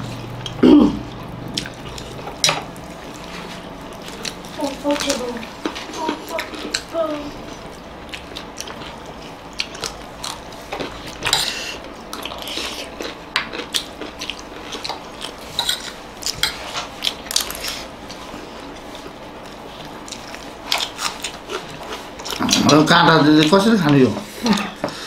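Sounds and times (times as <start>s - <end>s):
chewing and mouth sounds: 0.0s - 24.8s.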